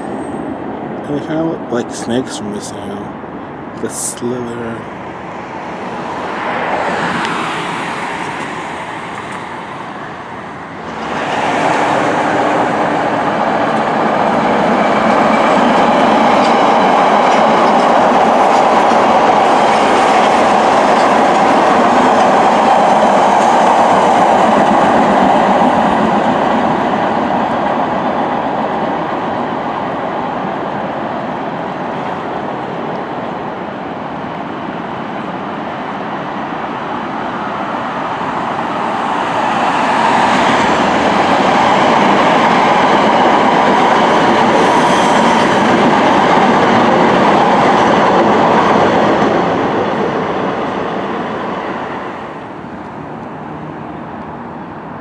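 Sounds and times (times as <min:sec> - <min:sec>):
subway train wheels on track: 0:00.0 - 0:55.0.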